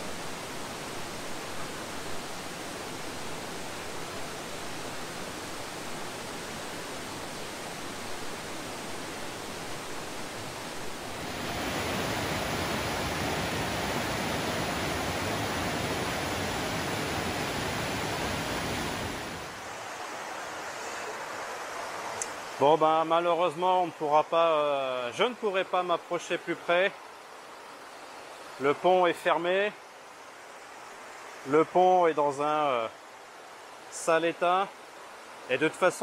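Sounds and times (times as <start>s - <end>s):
waterfall rushing: 0.1s - 36.0s.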